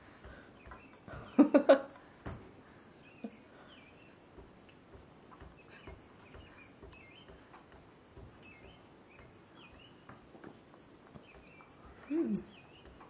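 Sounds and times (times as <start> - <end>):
faint bird chirps: 0.2 - 1.6, 2.2 - 13.0.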